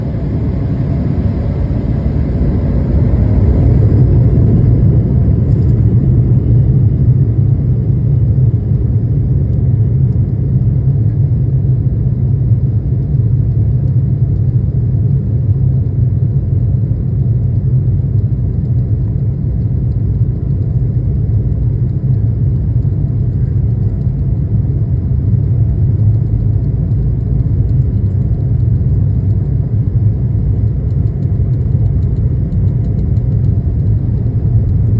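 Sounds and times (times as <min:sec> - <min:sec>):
jet engine rumble in cabin: 0:00.0 - 0:34.9.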